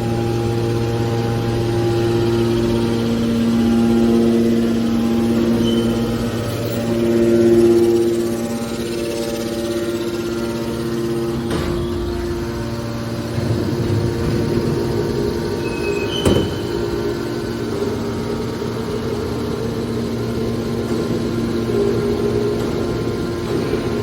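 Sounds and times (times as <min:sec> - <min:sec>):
baler machine hum: 0:00.0 - 0:24.0.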